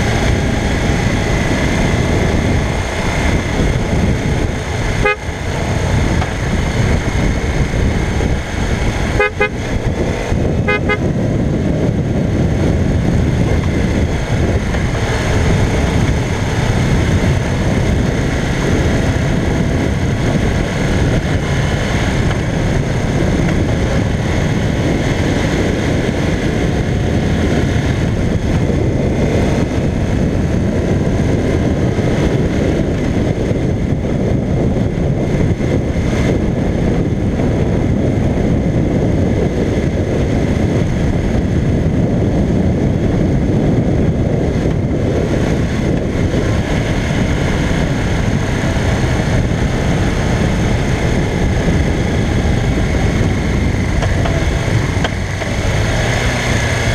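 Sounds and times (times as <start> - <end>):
motorcycle engine running: 0.0 - 56.9
road noise: 0.0 - 56.9
wind noise: 0.0 - 56.9.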